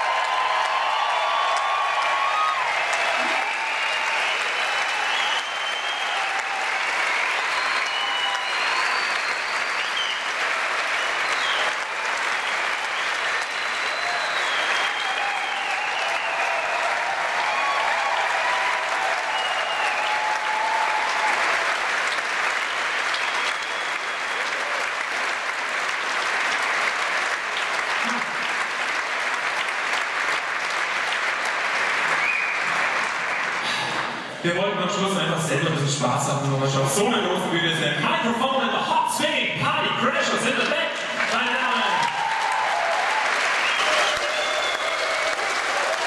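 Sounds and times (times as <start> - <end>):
audience applauding: 0.0 - 34.7, 40.3 - 46.0
people cheering: 0.0 - 35.8, 40.1 - 46.0.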